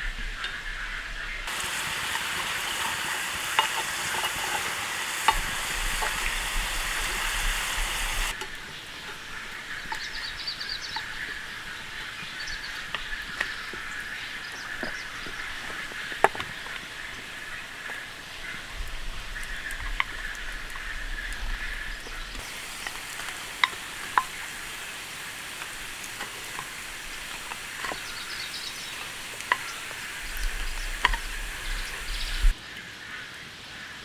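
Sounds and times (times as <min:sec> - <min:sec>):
rain hiss: 0:00.0 - 0:32.7
raindrops tapping: 0:01.4 - 0:32.6.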